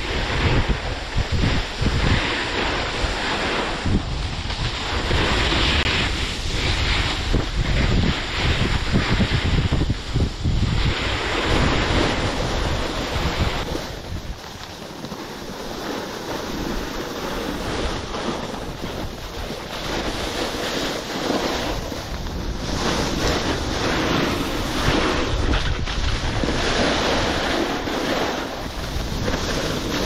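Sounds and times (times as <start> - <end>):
skis hissing on snow: 0.0 - 30.0
wind buffeting microphone: 0.0 - 30.0.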